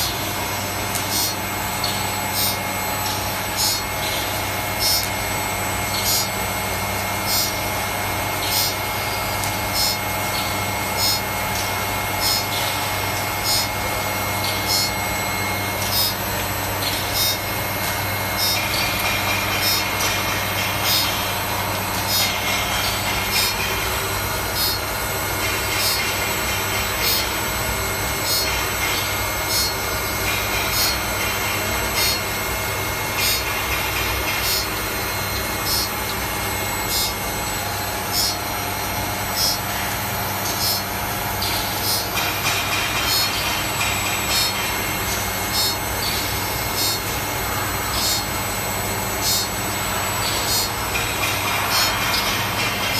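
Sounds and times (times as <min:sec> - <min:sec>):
machine humming: 0:00.0 - 0:52.9.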